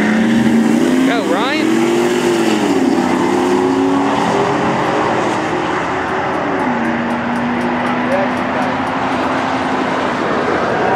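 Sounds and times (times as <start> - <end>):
truck engines running hard: 0.0 - 10.9.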